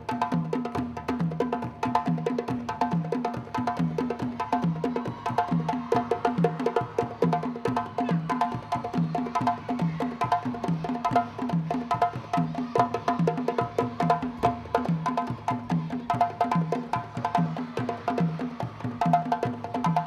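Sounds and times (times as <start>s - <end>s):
drum ensemble playing fast rhythm: 0.0s - 20.0s.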